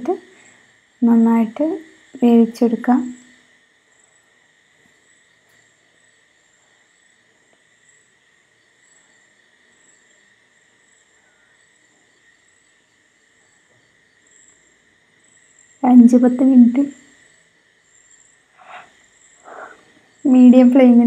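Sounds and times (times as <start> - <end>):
soft regular pulsing: 0.0 - 21.0.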